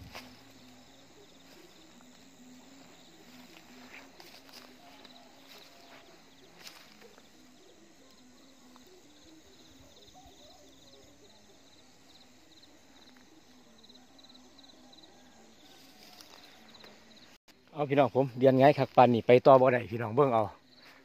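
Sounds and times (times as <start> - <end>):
low pulsing calls: 0.0 - 17.4
crickets chirping: 0.0 - 21.0.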